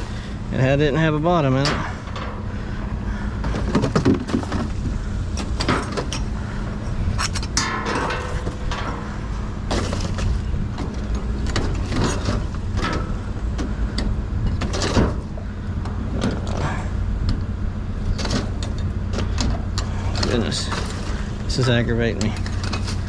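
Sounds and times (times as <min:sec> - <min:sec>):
steady low hum: 0:00.0 - 0:23.0
junk rummaged in a dumpster: 0:01.3 - 0:17.1, 0:17.9 - 0:23.0.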